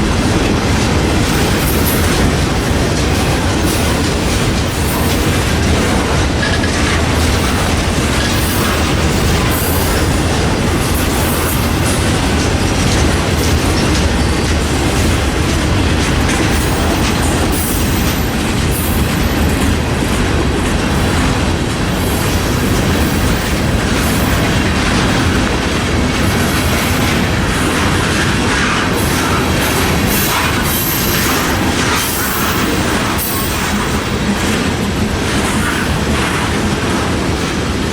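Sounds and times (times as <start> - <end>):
train wheels clickety-clack: 0.0 - 37.9.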